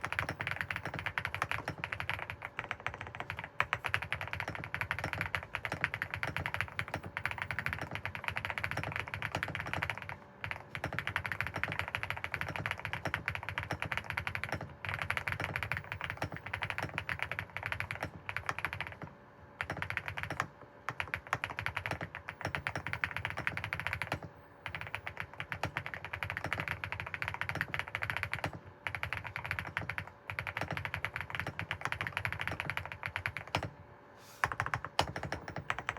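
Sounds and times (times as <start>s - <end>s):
mechanical keyboard typing: 0.0s - 33.8s, 34.4s - 35.9s.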